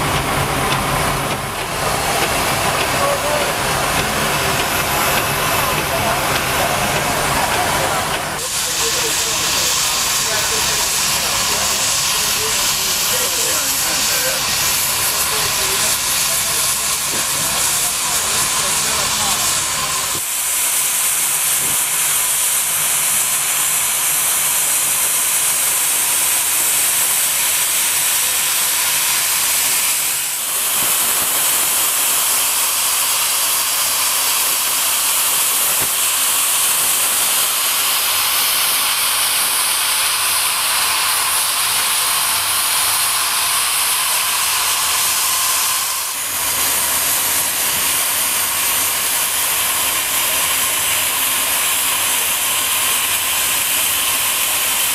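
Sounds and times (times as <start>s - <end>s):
steam hissing: 0.0s - 54.9s.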